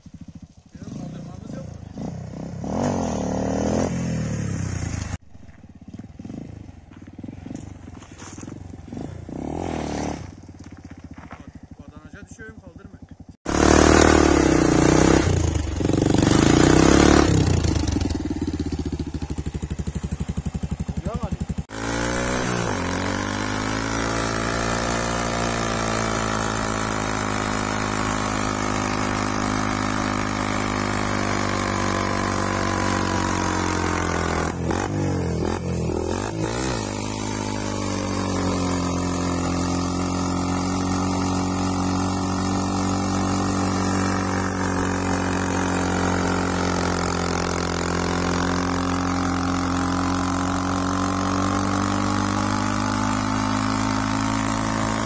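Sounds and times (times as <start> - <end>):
motorcycle engine revving high: 0.0 - 55.0.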